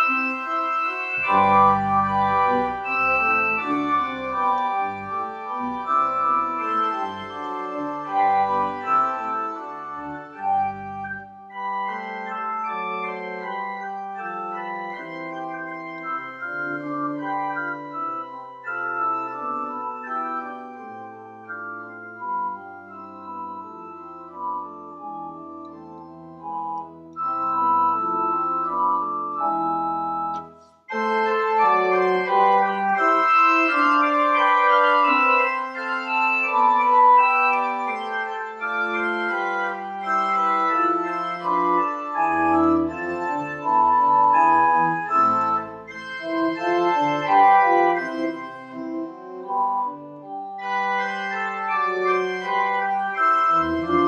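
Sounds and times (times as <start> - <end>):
church organ playing: 0.0 - 54.0.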